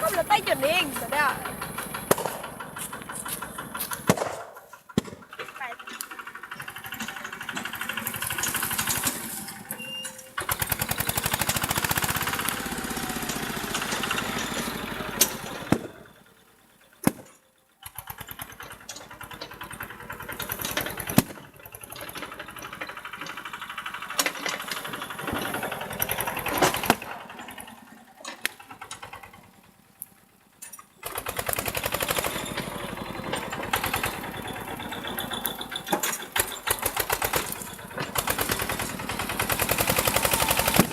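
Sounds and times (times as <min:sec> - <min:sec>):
tractor engine revving: 0:00.0 - 0:40.9.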